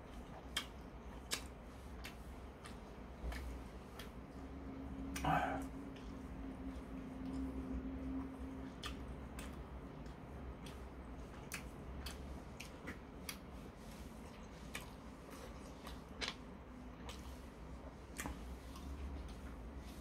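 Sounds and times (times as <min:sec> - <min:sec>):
faint low hum: 0:00.0 - 0:20.0
man chewing with mouth smacks: 0:00.0 - 0:20.0.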